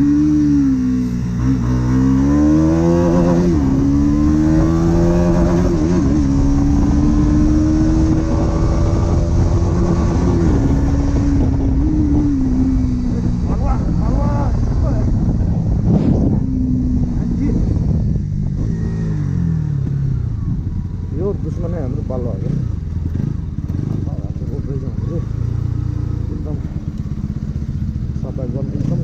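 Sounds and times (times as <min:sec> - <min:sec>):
motorcycle engine and exhaust: 0:00.0 - 0:29.0.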